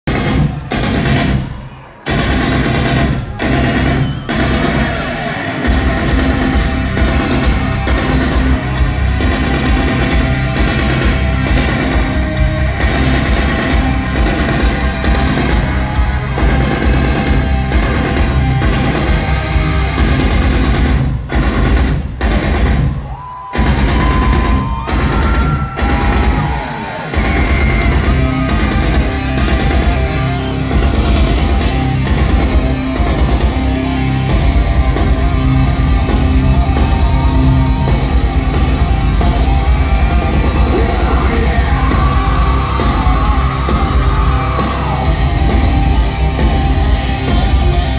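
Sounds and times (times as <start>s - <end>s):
heavy rock music: 0.0s - 47.9s.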